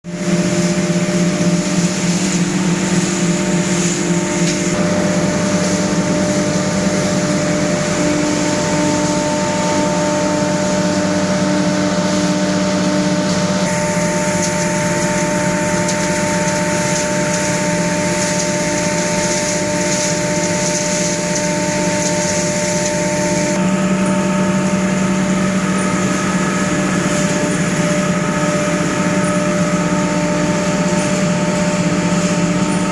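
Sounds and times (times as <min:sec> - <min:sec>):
drone of motors and fans: 0:00.1 - 0:32.9.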